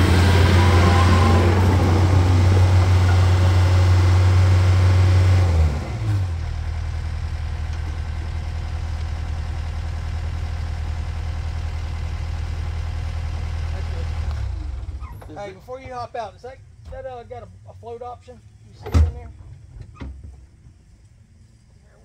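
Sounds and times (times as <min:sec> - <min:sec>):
diesel engine revving then idling: 0:00.0 - 0:17.8.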